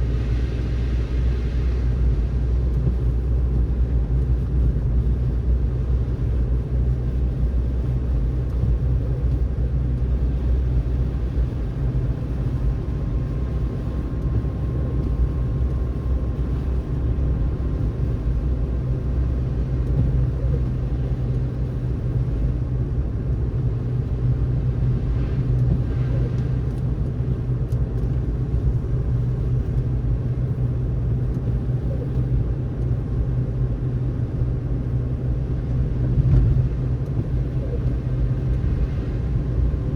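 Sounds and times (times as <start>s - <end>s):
tyre and engine rumble: 0.0s - 39.9s.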